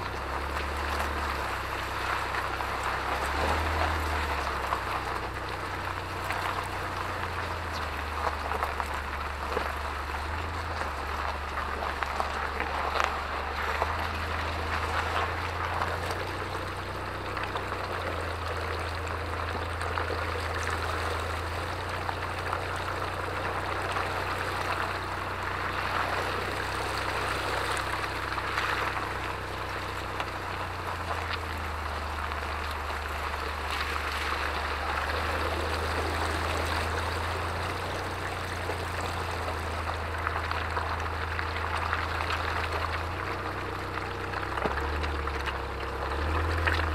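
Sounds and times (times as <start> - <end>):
tyre splashing through puddles: 0.0 - 46.9.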